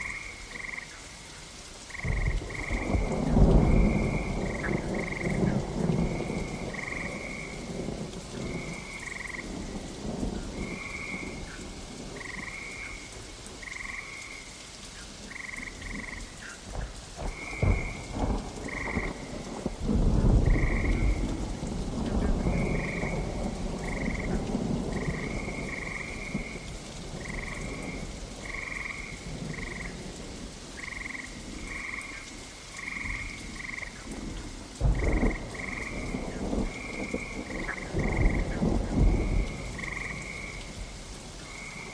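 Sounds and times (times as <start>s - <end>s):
frogs croaking: 0.0s - 41.9s
steady rain: 0.0s - 41.9s
thunder cracking and rumbling: 1.9s - 14.0s, 15.3s - 32.0s, 32.8s - 41.9s.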